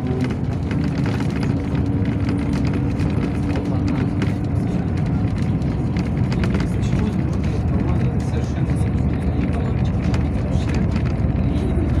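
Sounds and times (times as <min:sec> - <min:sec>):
bus engine and road rumble: 0:00.0 - 0:12.0
rattles from bus body: 0:00.0 - 0:12.0.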